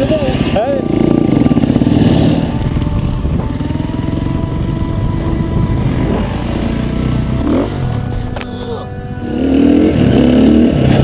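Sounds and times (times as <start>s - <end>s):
dirt bike engine running: 0.0s - 8.4s, 9.2s - 11.0s.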